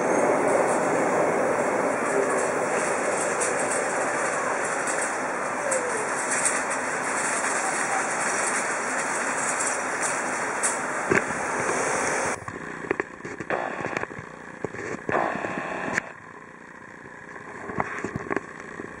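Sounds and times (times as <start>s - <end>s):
rack railway car running: 0.0s - 19.0s.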